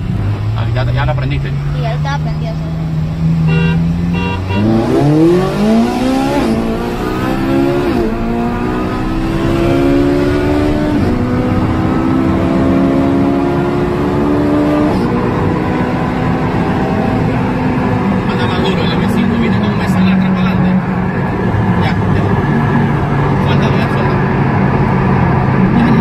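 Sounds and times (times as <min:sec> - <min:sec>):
car engine at full throttle: 0:00.0 - 0:26.0.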